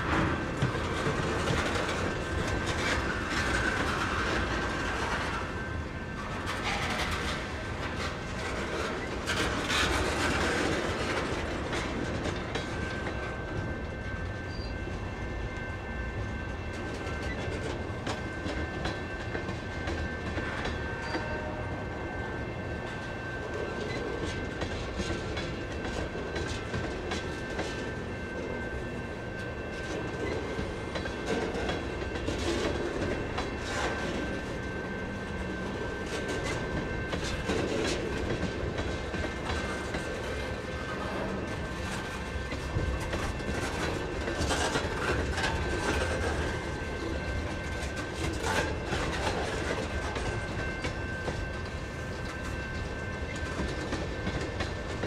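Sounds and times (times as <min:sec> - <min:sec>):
wheels clicking over rail joints: 0:00.0 - 0:05.6, 0:06.2 - 0:13.7, 0:23.0 - 0:55.0
train wheels rumbling on rail: 0:00.0 - 0:55.0.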